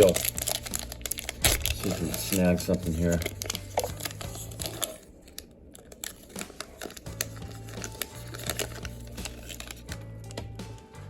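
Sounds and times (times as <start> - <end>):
plastic wrapper crinkling: 0.0 - 10.4
cards being handled: 0.0 - 10.9
low background music: 0.0 - 11.0.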